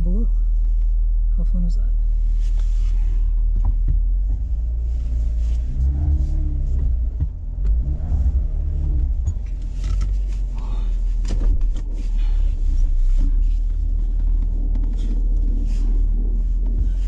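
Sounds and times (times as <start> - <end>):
engine rumbling under load: 0.0 - 17.0.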